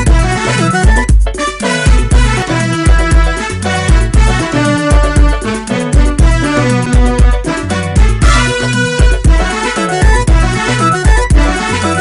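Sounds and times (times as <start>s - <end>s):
instrumental song with bass beat: 0.0s - 12.0s
melodic instrument lines: 0.0s - 12.0s.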